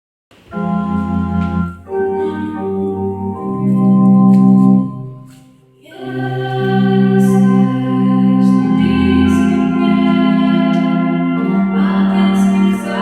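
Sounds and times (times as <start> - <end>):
organ playing chords: 0.4 - 13.0.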